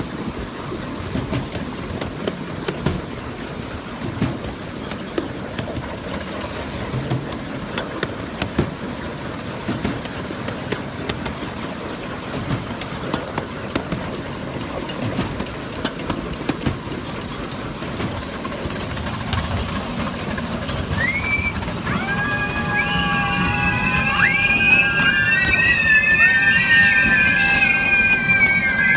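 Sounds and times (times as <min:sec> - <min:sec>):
miniature train rumbling: 0:00.0 - 0:28.9
wheels and couplings clicking: 0:00.0 - 0:28.9.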